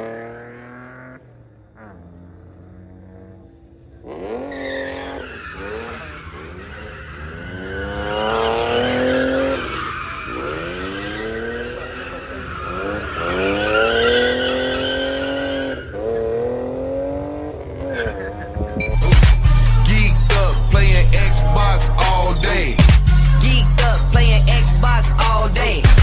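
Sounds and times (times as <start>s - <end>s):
car engine revving hard: 0.0s - 2.2s, 4.0s - 26.0s
tires squealing: 0.0s - 25.9s.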